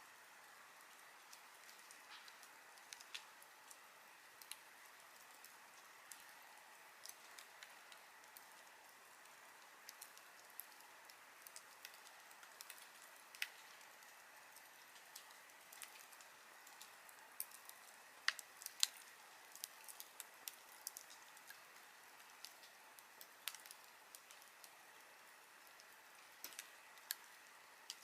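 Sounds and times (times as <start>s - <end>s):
faint steady hiss: 0.0s - 28.0s
wood fire crackling: 0.0s - 28.0s.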